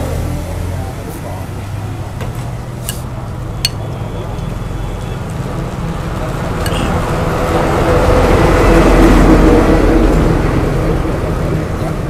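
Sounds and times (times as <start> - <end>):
large vehicle engine passing: 0.0 - 12.0.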